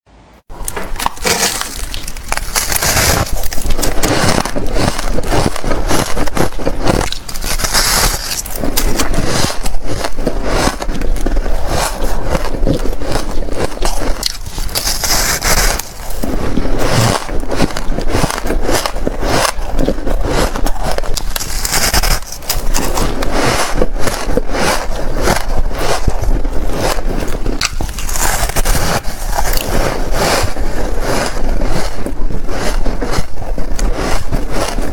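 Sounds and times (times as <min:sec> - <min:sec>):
chewing crunchy shaved ice: 0:00.5 - 0:34.9.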